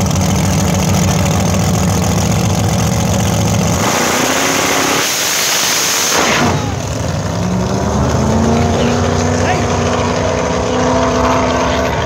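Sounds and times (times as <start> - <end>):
drag car engine roaring: 0.0 - 12.0.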